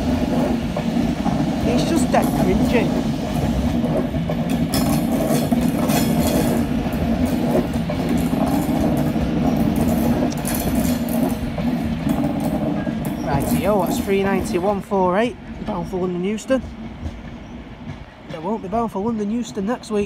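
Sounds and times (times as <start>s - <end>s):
electric train hum: 0.0s - 20.0s
train wheels rumbling: 0.0s - 20.0s
wheels clicking over rail joints: 0.0s - 20.0s.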